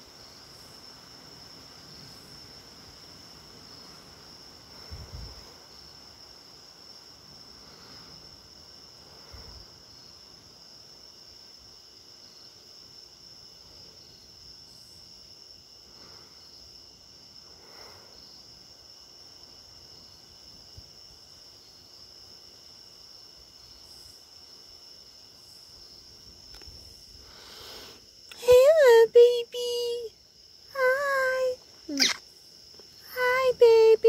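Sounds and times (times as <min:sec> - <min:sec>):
faint insect chirps: 0:00.0 - 0:34.0
insects trilling: 0:00.0 - 0:34.0.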